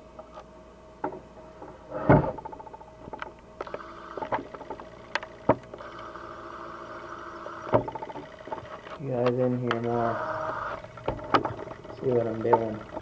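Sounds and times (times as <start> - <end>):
camera whine: 2.3 - 13.0.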